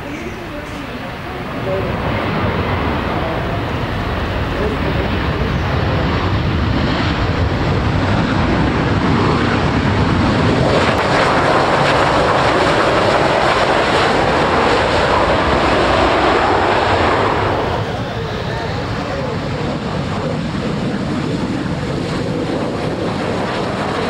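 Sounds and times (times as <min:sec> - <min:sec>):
jet engine roar at takeoff: 0:00.0 - 0:24.0.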